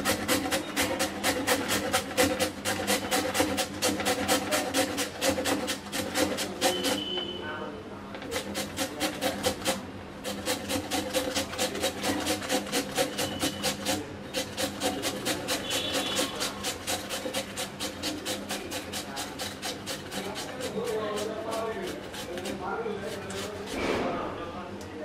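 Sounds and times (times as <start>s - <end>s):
potato rasping on a grater: 0.0s - 7.2s, 8.1s - 23.8s.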